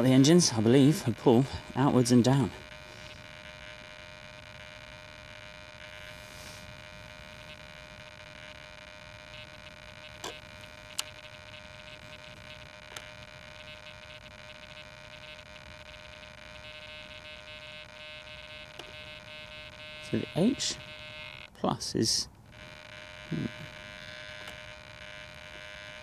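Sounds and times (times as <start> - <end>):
electronic hum and whine: 0.0 - 26.0.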